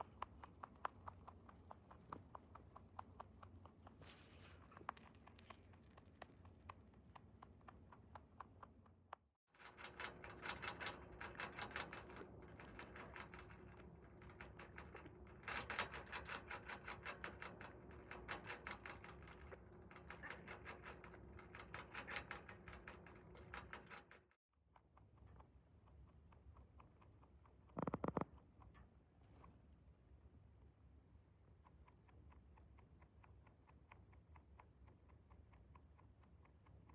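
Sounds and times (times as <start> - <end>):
rabbit chewing food: 0.0 - 36.9.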